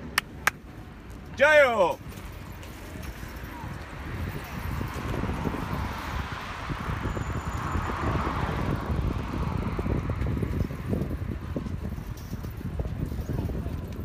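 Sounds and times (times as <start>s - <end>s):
wind buffeting a microphone: 2.3s - 14.0s.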